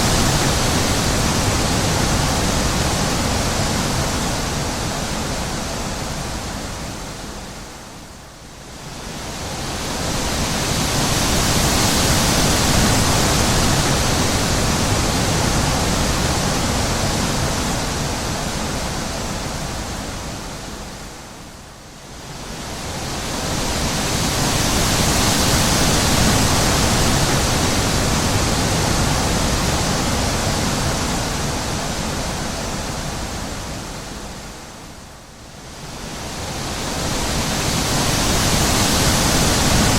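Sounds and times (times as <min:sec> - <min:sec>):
wind blowing in gusts: 0:00.0 - 0:39.9.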